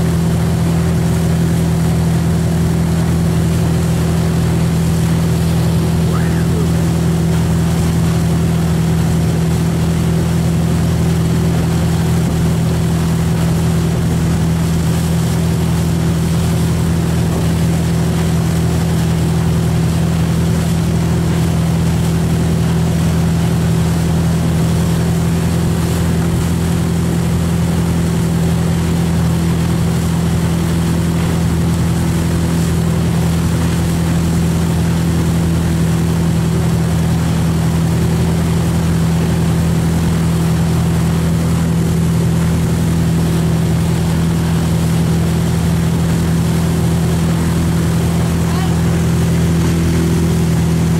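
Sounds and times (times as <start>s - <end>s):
boat engine droning: 0.0s - 50.9s
churning wake rushing: 0.0s - 50.9s.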